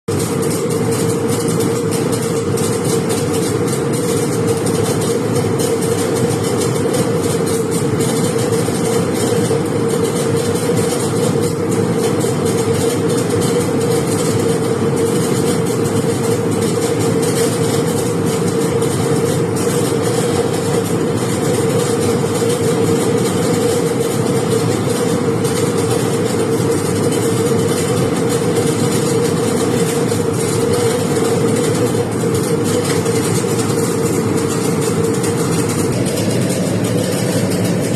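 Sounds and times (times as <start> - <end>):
constant droning hum: 0.1 - 37.9
welding arc crackling hiss: 0.2 - 37.9.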